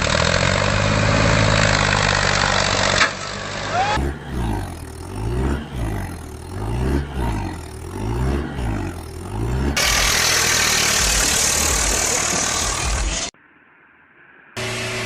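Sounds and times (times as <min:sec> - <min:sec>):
tractor engine revving: 0:00.0 - 0:13.4.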